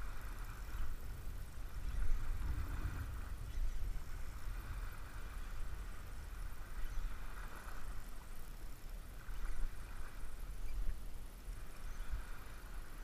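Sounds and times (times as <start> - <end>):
faint steady hiss: 0.0 - 13.0
wind buffeting microphone: 0.0 - 13.0.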